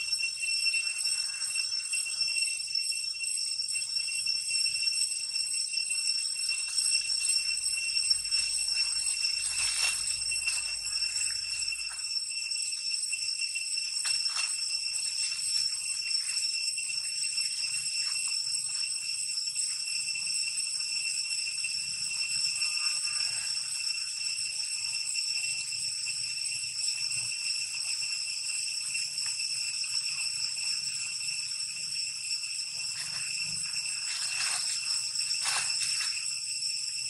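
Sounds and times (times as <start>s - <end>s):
shrill insect chorus: 0.0s - 37.0s.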